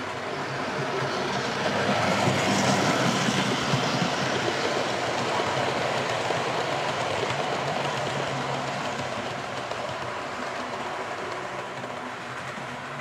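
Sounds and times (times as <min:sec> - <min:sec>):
model train wheels rumbling: 0:00.0 - 0:13.0.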